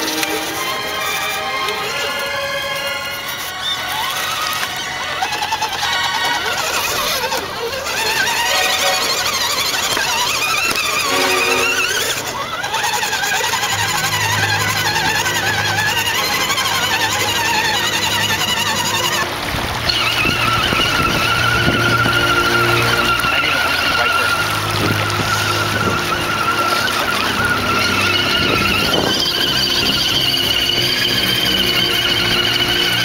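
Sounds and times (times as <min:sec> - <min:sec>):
driving through water: 0:00.0 - 0:33.0
electric motor and gears whining: 0:00.0 - 0:33.0.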